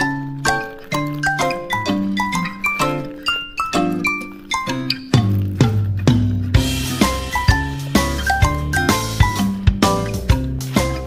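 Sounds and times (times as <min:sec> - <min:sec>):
bright electronic background music: 0:00.0 - 0:11.0.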